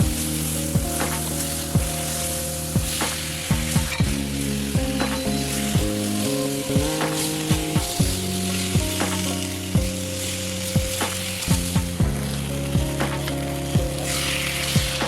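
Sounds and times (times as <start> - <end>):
background music with kick drum: 0.0 - 15.0
food sizzling in a pan: 0.0 - 15.0.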